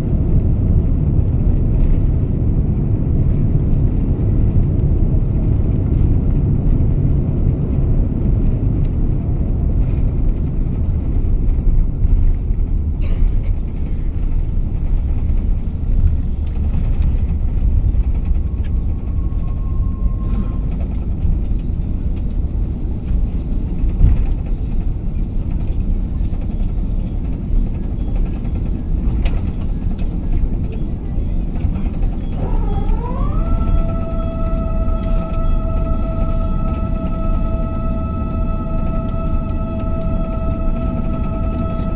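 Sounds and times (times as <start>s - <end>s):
airplane cabin rumble: 0.0s - 41.9s.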